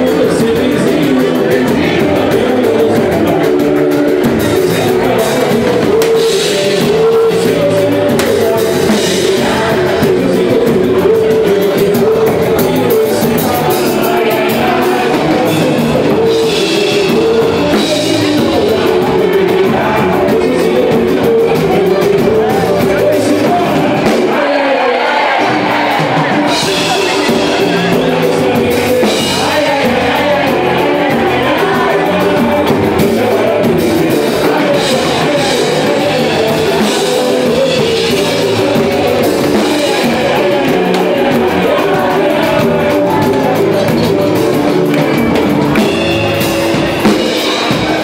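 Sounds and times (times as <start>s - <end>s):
person singing: 0.0s - 48.0s
samba band playing: 0.0s - 48.0s
steady percussion: 0.0s - 48.0s.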